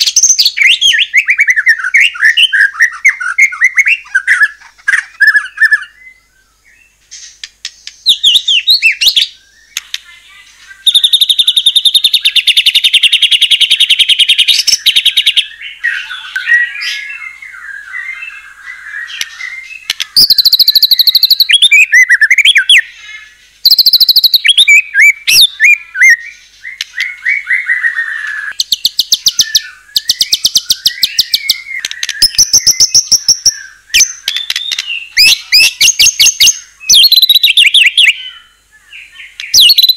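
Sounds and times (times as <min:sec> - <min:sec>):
songbird trilling and whistling: 0:00.0 - 0:39.9.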